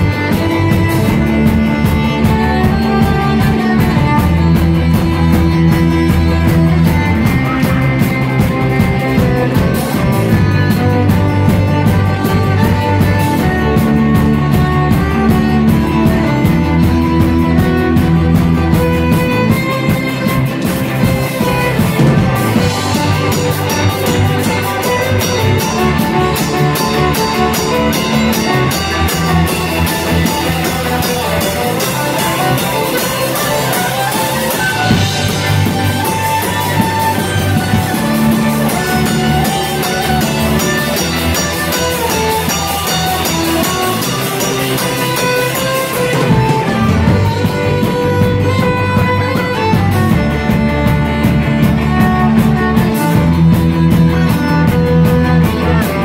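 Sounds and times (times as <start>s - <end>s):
drum kit beat: 0.0s - 56.0s
fiddle: 0.0s - 56.0s
guitars: 0.0s - 56.0s.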